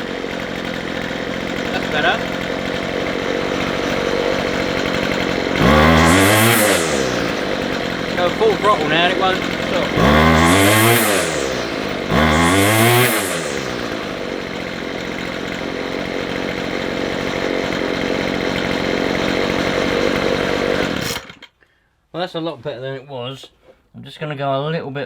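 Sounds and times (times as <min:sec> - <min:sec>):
strimmer engine revving and idling: 0:00.0 - 0:21.5.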